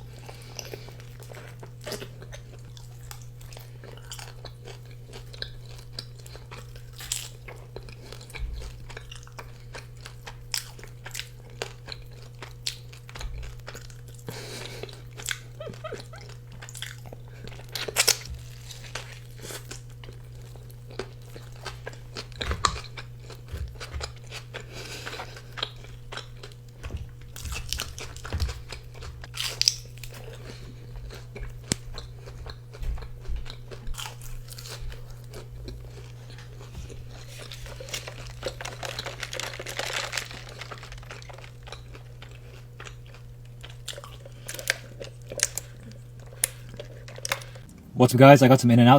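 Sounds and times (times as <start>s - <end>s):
person chewing crunchy food: 0.0s - 47.7s
steady low hum: 0.0s - 48.9s.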